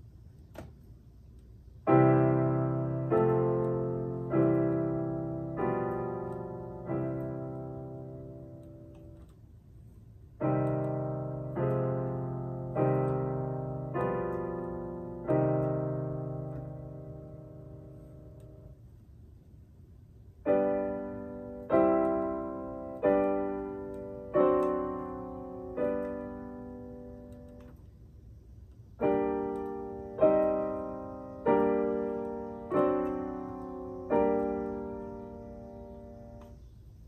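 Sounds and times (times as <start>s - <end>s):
piano playing slow chords: 1.8s - 9.6s, 10.3s - 18.9s, 20.3s - 28.2s, 28.9s - 37.0s.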